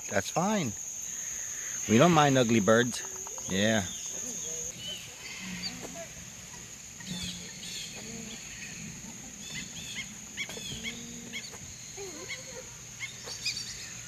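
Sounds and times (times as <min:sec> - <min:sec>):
birds chirping: 0:00.0 - 0:14.0
steady high-pitched buzz: 0:00.0 - 0:14.0
lower bird calls: 0:01.0 - 0:14.0.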